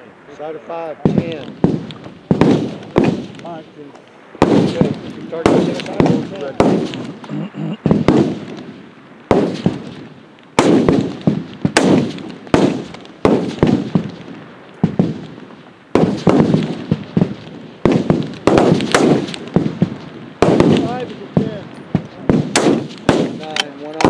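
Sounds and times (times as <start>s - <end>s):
rifle shots with rolling echo: 0.4s - 24.0s.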